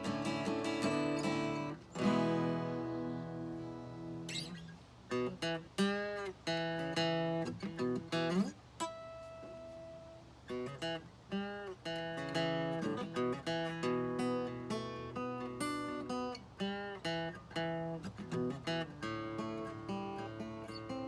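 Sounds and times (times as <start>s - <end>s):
acoustic guitar picked and strummed: 0.0s - 21.0s.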